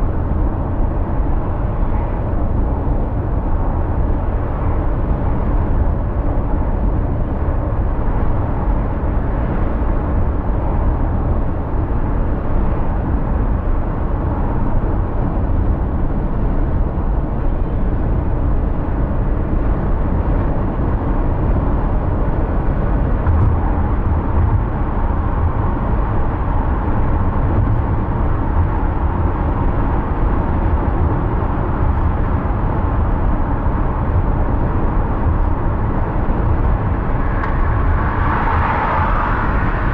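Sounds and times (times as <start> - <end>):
car engine: 0.0 - 39.9
tyre road noise: 0.0 - 39.9.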